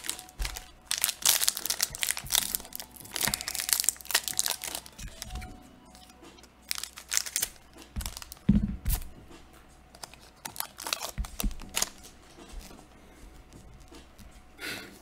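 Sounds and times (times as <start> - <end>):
cards rustling and flicking: 0.0 - 9.2, 9.9 - 12.9.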